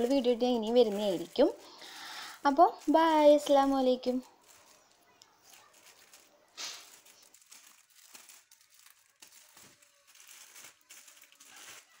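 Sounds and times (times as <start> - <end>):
plastic sleeves crinkling: 0.0 - 12.0.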